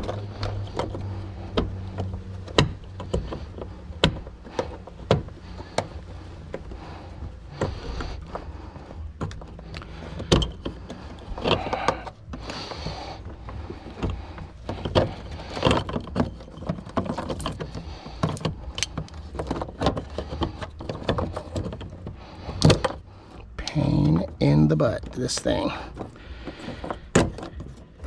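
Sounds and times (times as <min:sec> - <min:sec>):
metallic clicks and scraping: 0:00.0 - 0:28.0.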